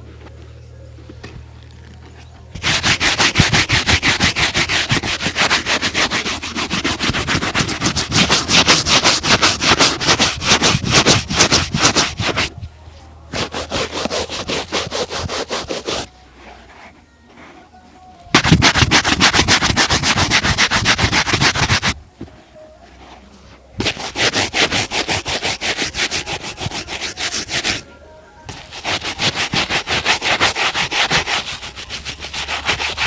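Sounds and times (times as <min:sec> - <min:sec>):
shoe being brushed: 0:02.6 - 0:12.6, 0:13.3 - 0:17.7, 0:18.3 - 0:27.8, 0:28.5 - 0:33.0.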